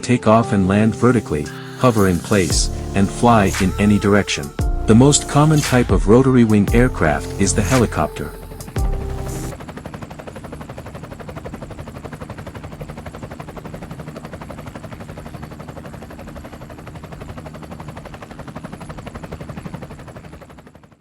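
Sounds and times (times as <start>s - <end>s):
helicopter rotor chopping: 0.4s - 21.0s.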